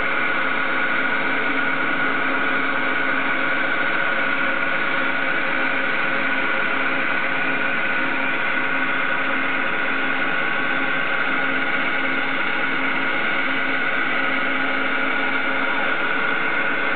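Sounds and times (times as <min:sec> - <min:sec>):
lathe humming with whine: 0:00.0 - 0:16.9.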